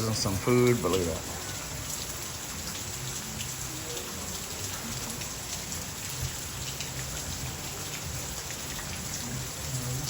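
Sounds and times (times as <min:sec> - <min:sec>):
raindrops ticking: 0:00.0 - 0:10.0
steady rain falling: 0:00.0 - 0:10.0.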